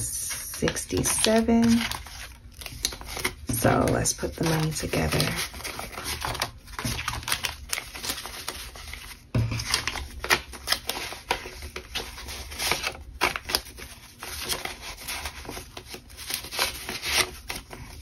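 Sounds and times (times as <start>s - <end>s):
paper banknotes rustling: 0.3s - 18.0s.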